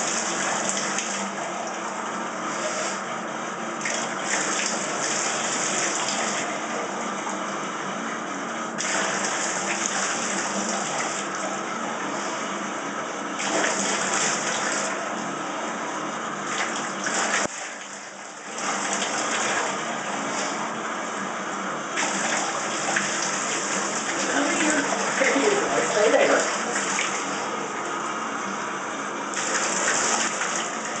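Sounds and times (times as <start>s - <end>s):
water running into a bathtub: 0.0s - 31.0s.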